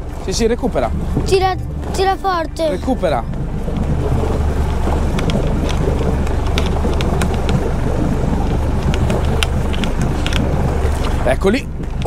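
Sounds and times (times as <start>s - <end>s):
motorboat engine running: 0.0s - 12.0s
wind buffeting microphone: 0.0s - 12.0s.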